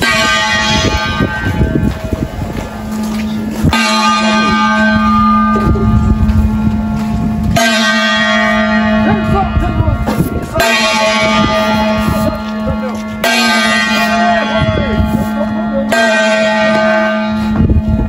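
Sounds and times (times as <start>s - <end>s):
large bell ringing: 0.0s - 18.0s.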